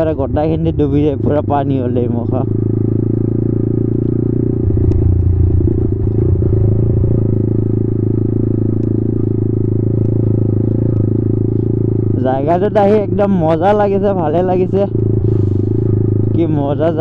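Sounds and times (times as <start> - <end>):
motorcycle engine running: 0.0 - 17.0
motorcycle clattering over bumps: 2.5 - 16.6.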